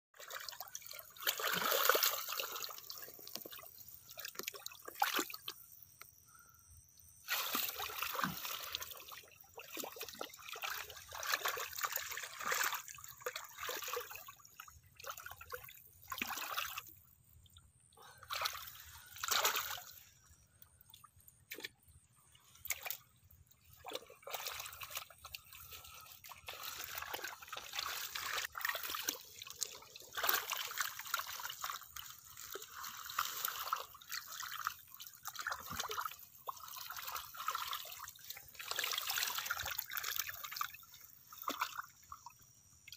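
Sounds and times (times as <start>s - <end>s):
hands sloshing in muddy water: 0.2s - 5.6s, 7.3s - 16.9s, 18.0s - 20.2s, 21.4s - 40.8s.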